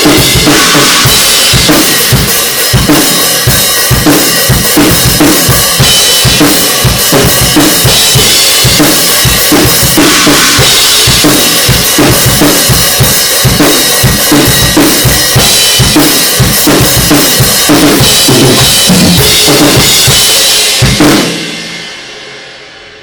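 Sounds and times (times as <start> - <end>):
bass drum: 0.0 - 21.5
cymbals: 0.0 - 23.0.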